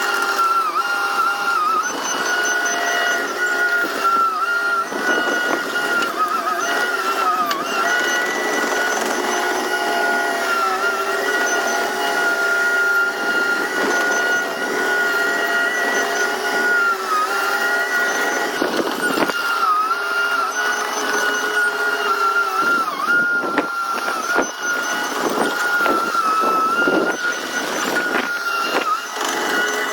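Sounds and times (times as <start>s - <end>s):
bulldozer diesel engine whining: 0.0s - 29.9s.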